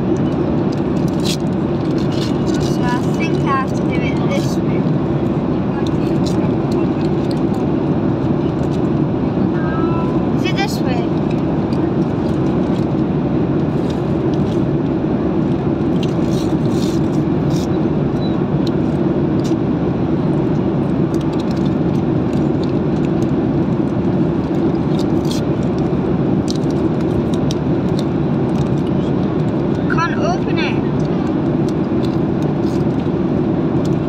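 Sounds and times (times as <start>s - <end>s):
car cabin engine and road rumble: 0.0s - 34.0s.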